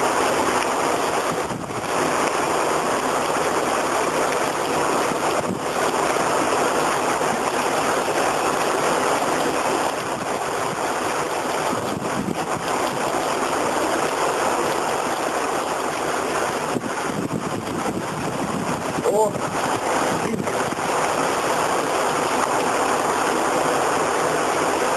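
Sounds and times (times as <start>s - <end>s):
gusting wind: 0.0s - 24.9s
rain: 0.0s - 24.9s.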